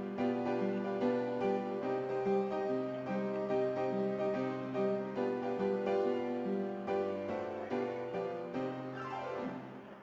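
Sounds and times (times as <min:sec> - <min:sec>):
harpsichord-like keyboard music: 0:00.0 - 0:10.0.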